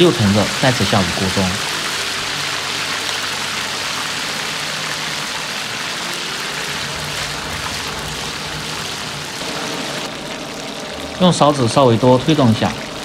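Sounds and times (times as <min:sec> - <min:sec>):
chicken sizzling in frying oil: 0:00.0 - 0:13.0.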